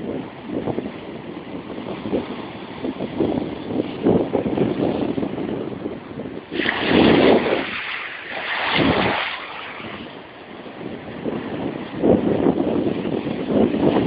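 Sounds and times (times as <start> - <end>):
sea waves washing in: 0.0 - 14.0
wind buffeting microphone: 0.0 - 14.0.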